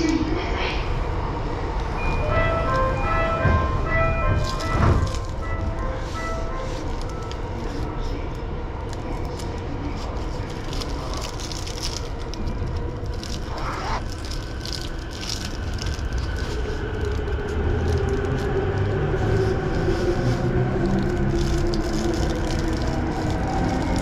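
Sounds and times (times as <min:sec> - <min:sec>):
train running rumble: 0:00.0 - 0:24.0.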